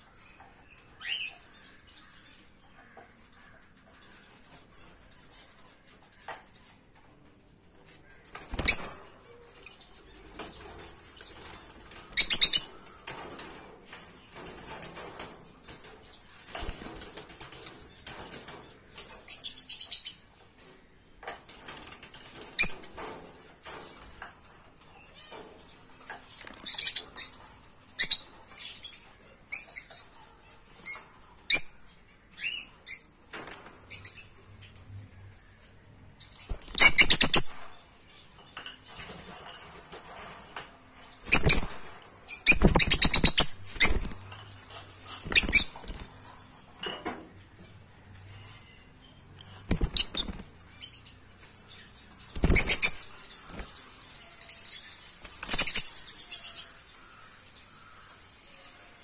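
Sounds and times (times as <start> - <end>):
lovebirds chirping and squeaking: 0.0 - 7.0, 7.7 - 59.0.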